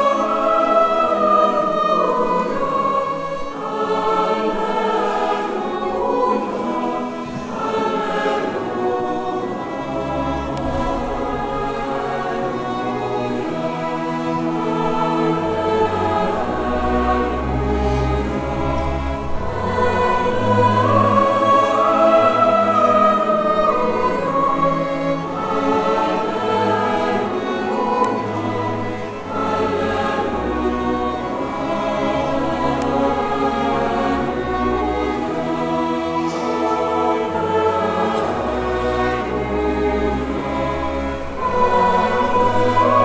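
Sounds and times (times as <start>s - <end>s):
mixed choir singing: 0.0s - 43.0s
small orchestra playing: 0.0s - 43.0s.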